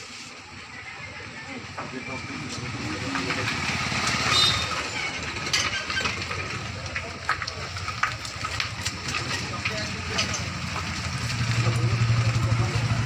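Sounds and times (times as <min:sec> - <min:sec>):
voices: 0:00.3 - 0:13.0
vehicle engine running: 0:00.5 - 0:13.0.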